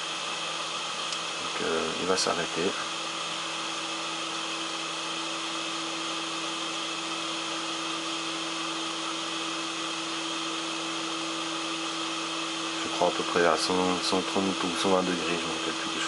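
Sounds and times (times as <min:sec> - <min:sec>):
blower fan rushing air: 0:00.0 - 0:16.0.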